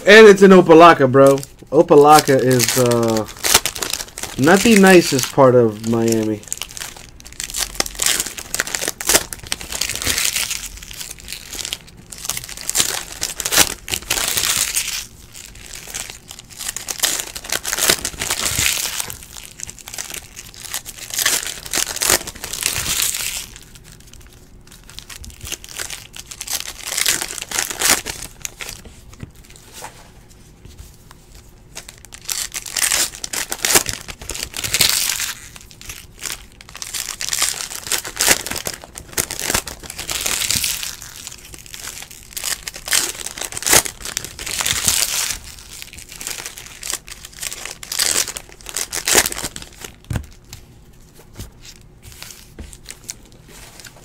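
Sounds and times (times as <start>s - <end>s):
foil wrappers crinkling and tearing: 0.0s - 30.0s, 30.7s - 54.0s.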